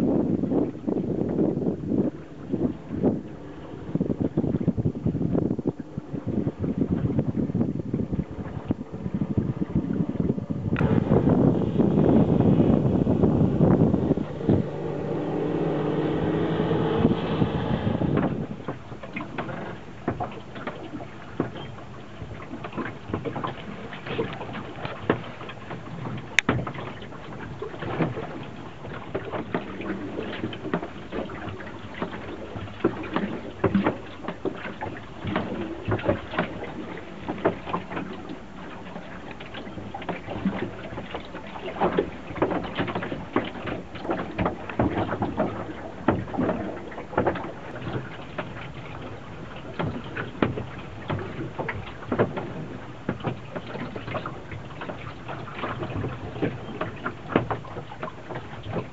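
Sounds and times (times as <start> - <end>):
water slapping against boat hull: 0.0 - 58.9
water wash: 0.0 - 58.9.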